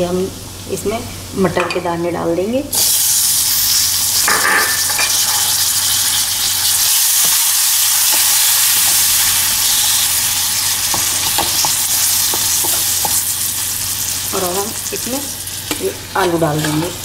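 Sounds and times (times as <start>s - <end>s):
peas sizzling in hot oil: 2.7s - 17.0s.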